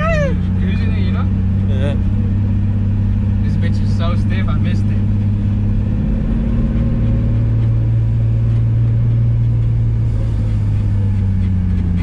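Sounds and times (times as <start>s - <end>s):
car engine cruising: 0.0s - 12.0s.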